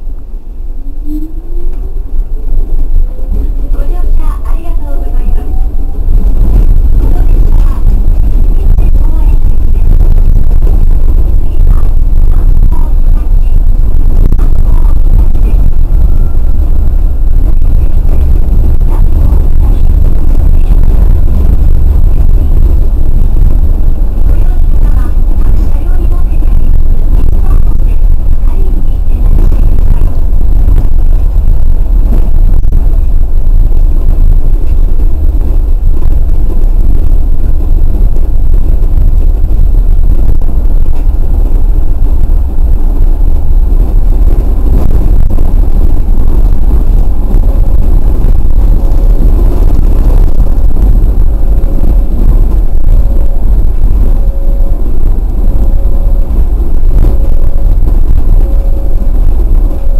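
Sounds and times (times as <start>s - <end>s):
faint on-off tone: 0.0s - 59.9s
tram tyres rumbling: 0.0s - 59.9s.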